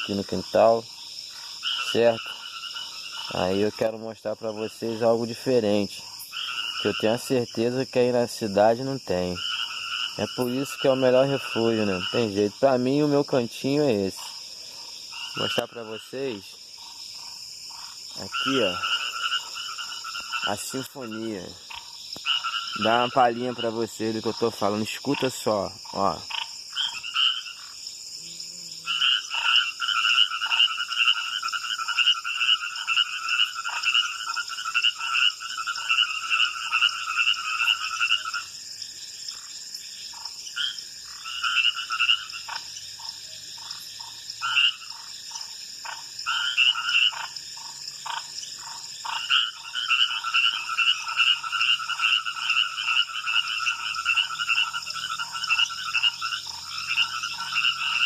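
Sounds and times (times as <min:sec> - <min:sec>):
frogs croaking: 0:00.0 - 0:58.0
high-pitched insect trill: 0:00.0 - 0:58.0.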